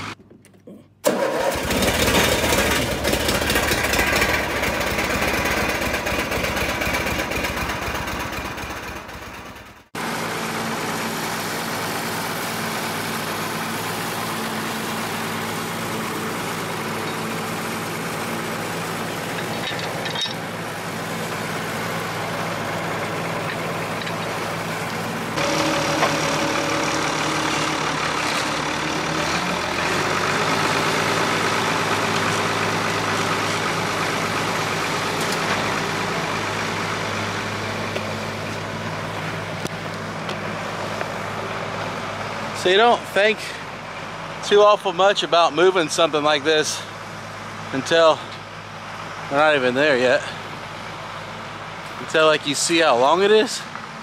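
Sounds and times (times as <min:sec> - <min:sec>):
tractor engine idling: 0:01.0 - 0:54.0.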